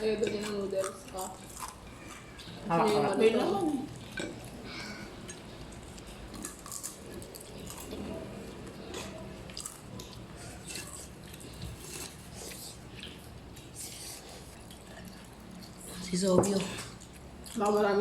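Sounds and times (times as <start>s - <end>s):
people chewing: 0.0s - 18.0s.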